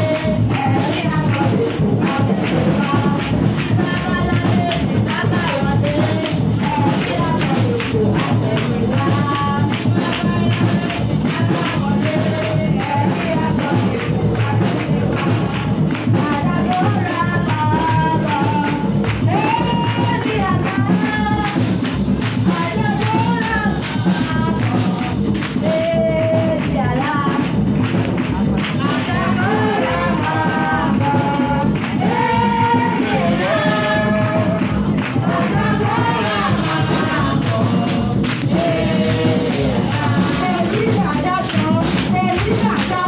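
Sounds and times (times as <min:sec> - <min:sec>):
group of voices singing: 0:00.0 - 0:43.0
tambourines shaken: 0:00.0 - 0:43.0.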